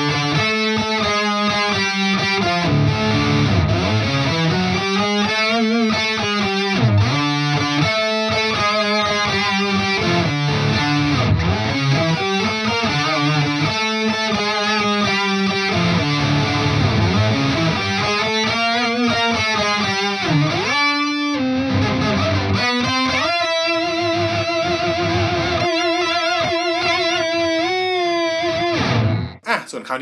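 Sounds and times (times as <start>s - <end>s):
electric guitar with harmony effect: 0.0s - 29.4s.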